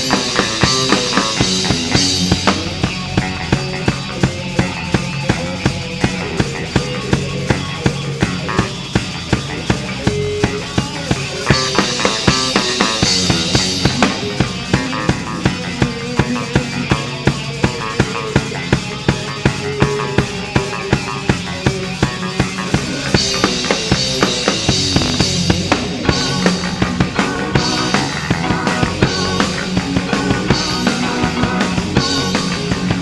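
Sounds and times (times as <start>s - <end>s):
drum beat: 0.0s - 19.3s, 20.0s - 33.0s
electric guitar: 0.0s - 33.0s.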